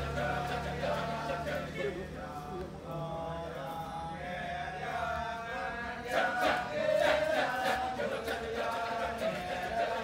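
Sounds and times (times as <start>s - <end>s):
music with chant-like vocals: 0.0s - 10.0s.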